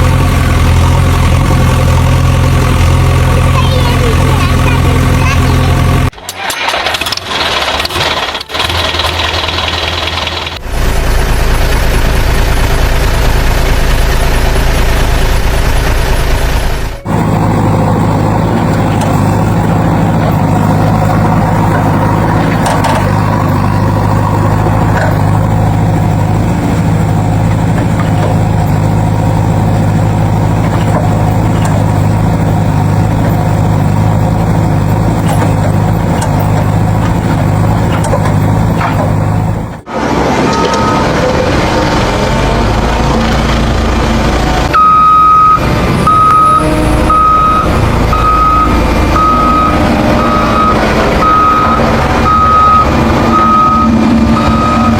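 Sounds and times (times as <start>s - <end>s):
vehicle engine running low: 0.0s - 54.9s.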